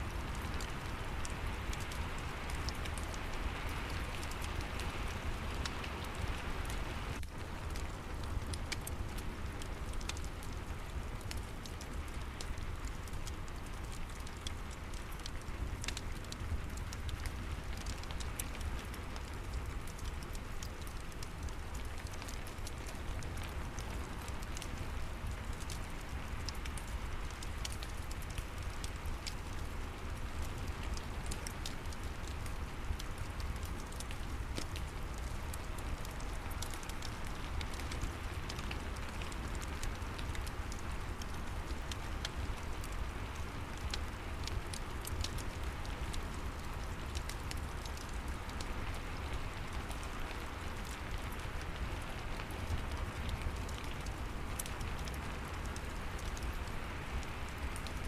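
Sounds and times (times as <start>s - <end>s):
fireplace crackling: 0.0s - 58.0s
steady rain falling: 0.0s - 58.0s.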